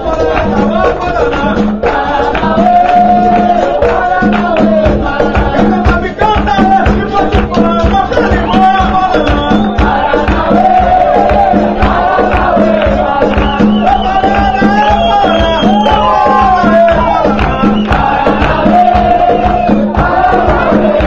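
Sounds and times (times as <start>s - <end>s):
hand percussion: 0.0s - 21.0s
voices singing: 0.0s - 21.0s.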